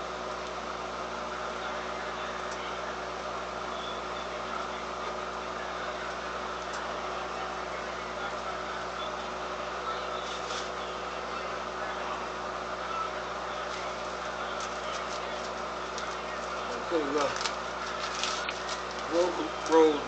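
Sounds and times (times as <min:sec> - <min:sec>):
appliance hum and hiss: 0:00.0 - 0:20.0.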